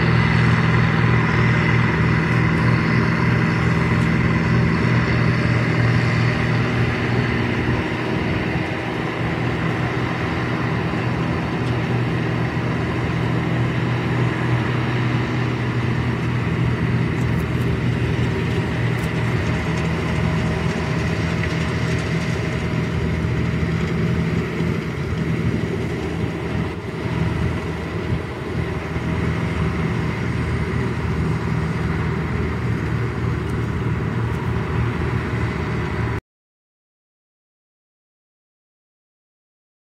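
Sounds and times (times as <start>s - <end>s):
diesel engine running loudly: 0.0s - 36.2s.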